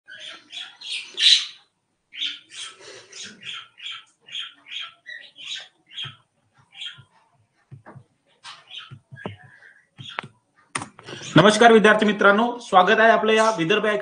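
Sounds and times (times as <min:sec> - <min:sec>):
bird chirping: 0:00.1 - 0:11.6.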